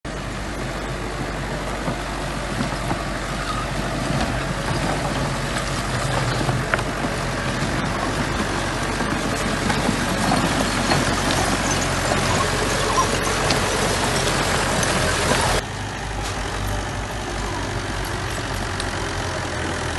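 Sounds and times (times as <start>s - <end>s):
bulldozer diesel engine running: 0.0s - 19.9s.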